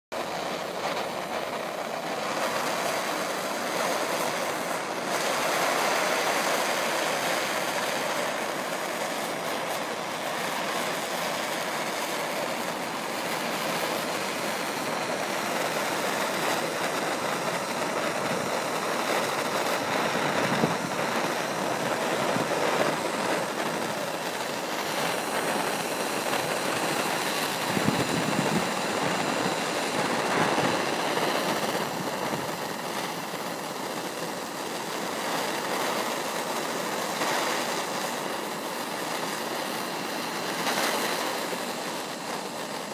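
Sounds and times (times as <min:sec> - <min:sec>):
gas torch flame hissing: 0:00.2 - 0:42.9.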